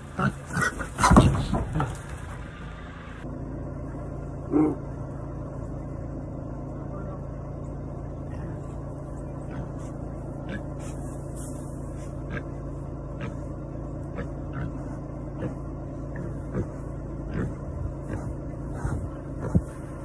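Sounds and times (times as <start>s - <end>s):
engine idling rumble: 0.0s - 20.0s
low hum: 0.0s - 20.0s.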